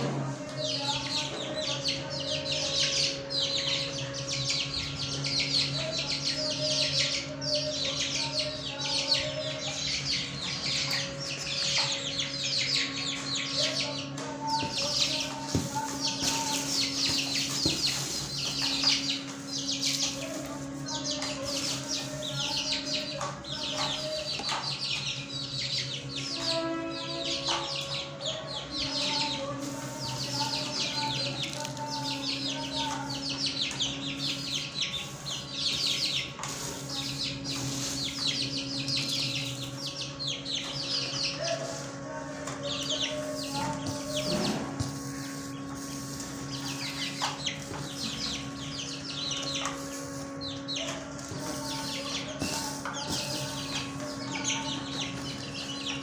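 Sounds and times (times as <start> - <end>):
steady low hum: 0.0 - 56.0
small birds chirping: 0.2 - 56.0.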